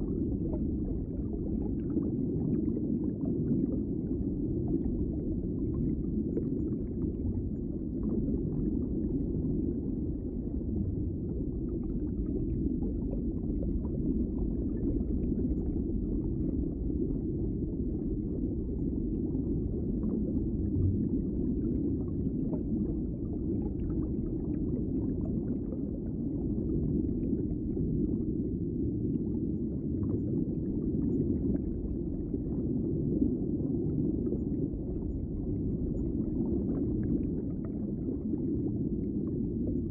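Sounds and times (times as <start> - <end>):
faint crackles and pops: 0.0 - 39.9
underwater rumbling wash: 0.0 - 39.9.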